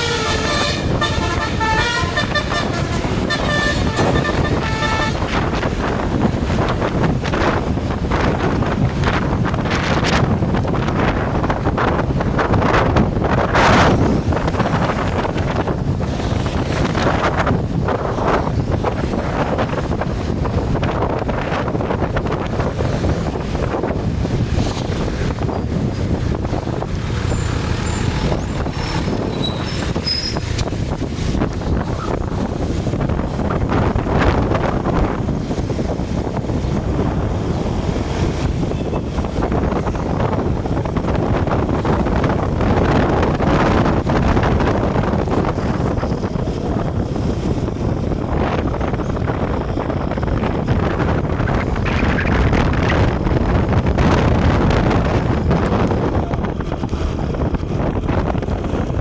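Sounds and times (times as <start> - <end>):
road traffic noise: 0.0 - 59.0
wind buffeting microphone: 0.0 - 59.0.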